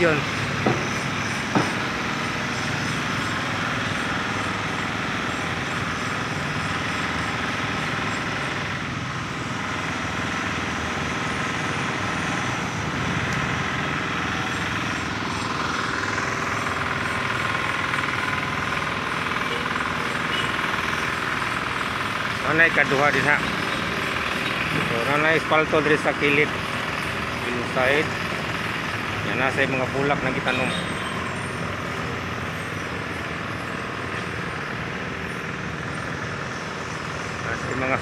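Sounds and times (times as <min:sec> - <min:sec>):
city street traffic: 0:00.0 - 0:38.0
engine revving: 0:00.0 - 0:38.0.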